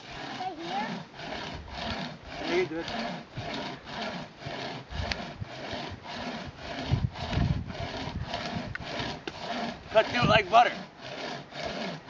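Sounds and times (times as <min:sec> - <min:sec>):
hand chainsaw rasping through wood: 0:00.0 - 0:12.0.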